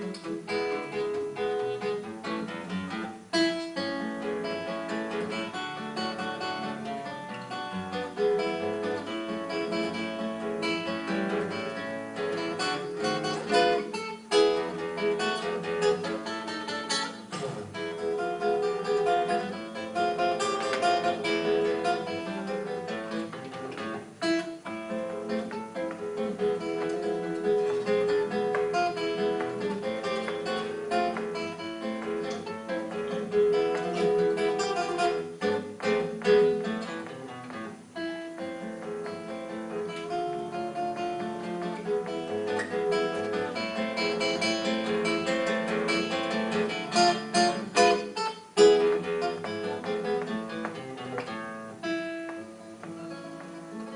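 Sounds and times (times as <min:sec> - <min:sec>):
fast acoustic guitar playing: 0:00.0 - 0:53.9.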